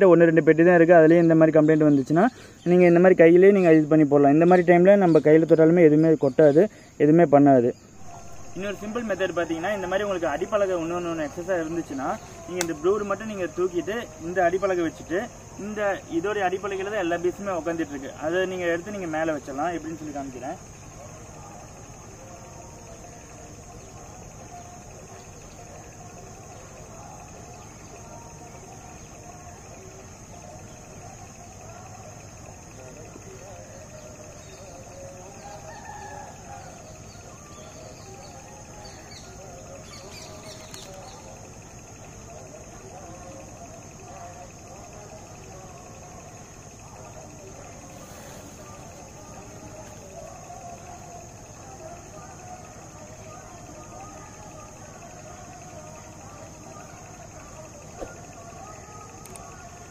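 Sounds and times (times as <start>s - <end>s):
faint wavering calls: 0.0s - 59.9s
high-pitched insect drone: 0.0s - 59.9s.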